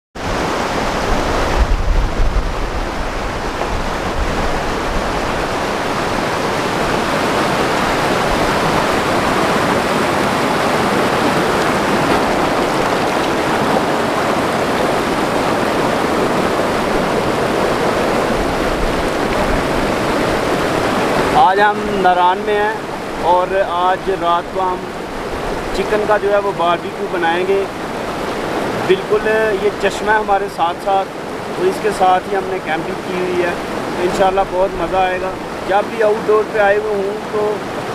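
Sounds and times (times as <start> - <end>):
stream rushing over rocks: 0.2 - 37.9.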